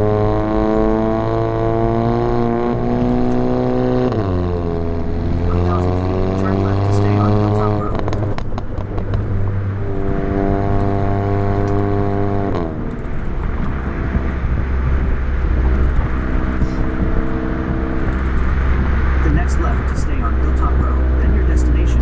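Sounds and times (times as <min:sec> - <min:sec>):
car engine running: 0:00.0 - 0:22.0
tyre and road noise: 0:00.0 - 0:22.0.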